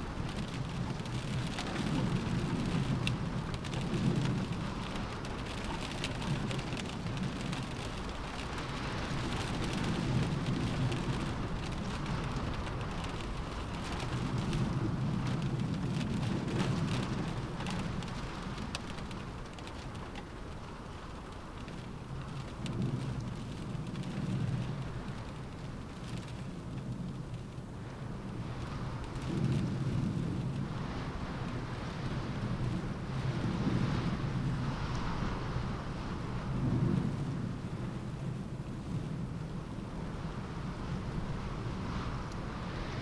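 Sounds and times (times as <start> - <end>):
low wind rumble: 0.0 - 43.0
rain beating on a window: 0.0 - 43.0.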